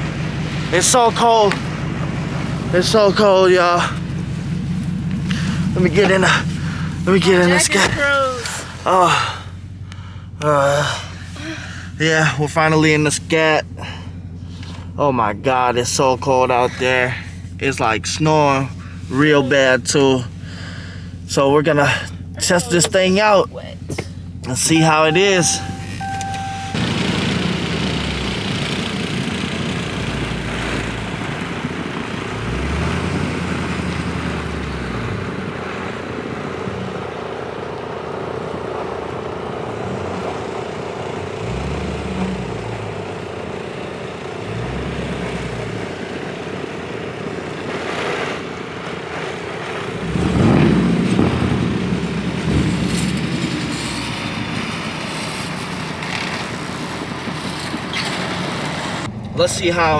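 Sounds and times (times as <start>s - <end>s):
car engine driving through snow: 0.0s - 59.9s.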